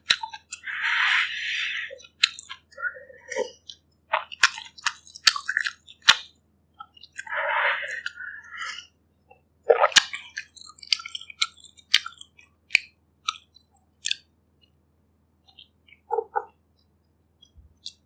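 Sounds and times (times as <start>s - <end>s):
chewing food: 1.9s - 8.9s, 9.7s - 14.8s, 15.4s - 18.0s.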